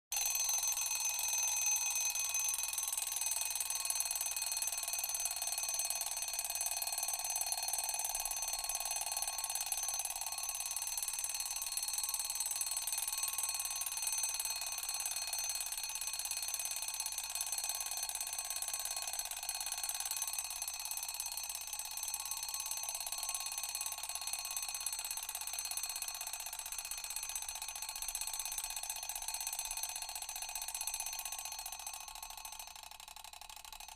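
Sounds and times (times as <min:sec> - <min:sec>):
alarm clock bell ringing: 0:00.1 - 0:32.7.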